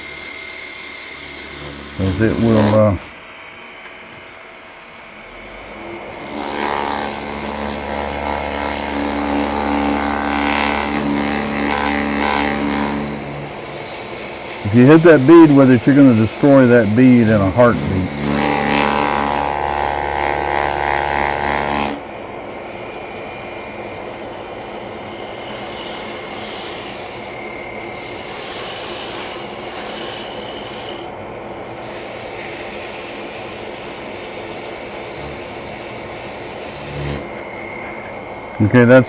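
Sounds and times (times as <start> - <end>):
sanding pad rasping on spinning wood: 0.0 - 3.0, 6.1 - 37.3
steady hum: 0.0 - 39.0.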